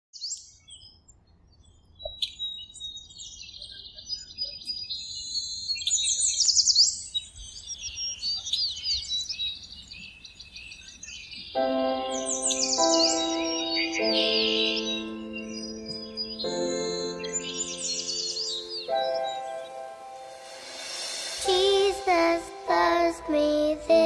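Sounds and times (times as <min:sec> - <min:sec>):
songbirds chirping and trilling: 0:00.2 - 0:24.0.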